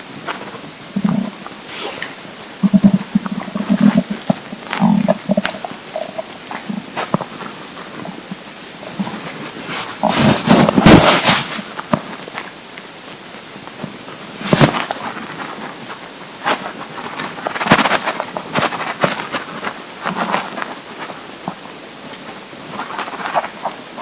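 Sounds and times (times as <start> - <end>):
stomach rumbling and gurgling: 0.0 - 24.0.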